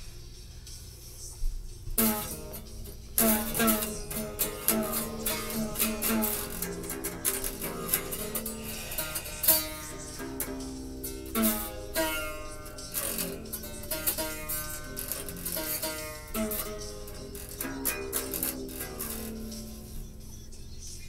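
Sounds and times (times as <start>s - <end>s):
guitar strings plucked: 1.9s - 20.8s.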